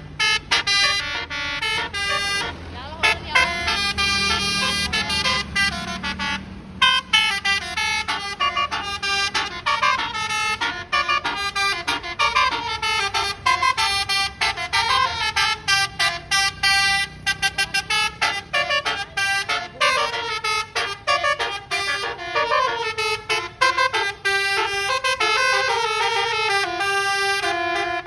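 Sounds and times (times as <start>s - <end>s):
musical air horn melody: 0.0s - 28.0s.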